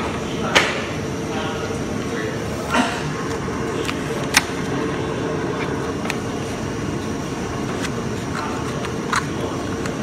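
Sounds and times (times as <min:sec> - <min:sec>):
cutting plotter humming: 0:00.0 - 0:10.0.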